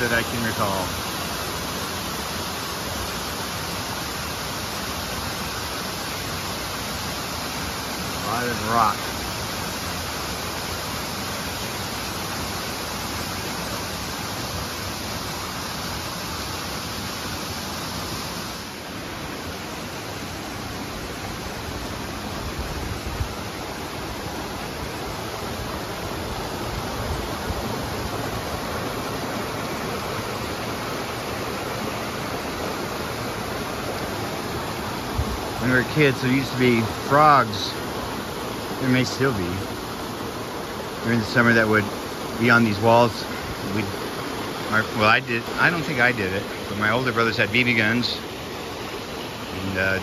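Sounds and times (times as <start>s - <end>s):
creek rushing over rocks: 0.0s - 50.0s.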